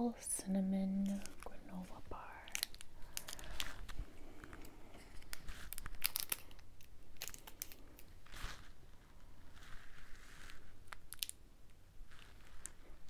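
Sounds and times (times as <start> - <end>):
plastic wrapper crinkling and tearing: 1.0 - 8.8, 9.5 - 13.0.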